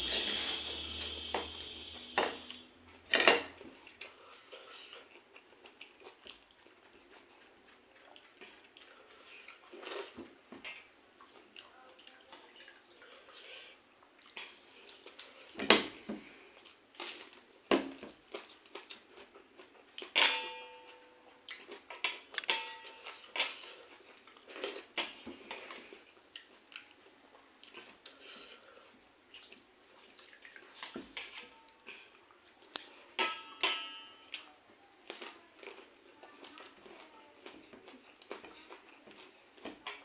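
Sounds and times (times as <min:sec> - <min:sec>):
chewing: 0:03.6 - 0:15.6, 0:16.2 - 0:20.2, 0:21.3 - 0:33.1, 0:34.3 - 0:40.0.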